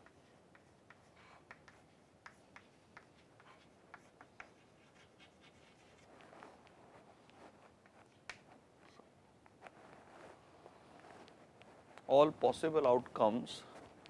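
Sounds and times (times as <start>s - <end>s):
chalk tapping and scratching: 0.0s - 12.2s.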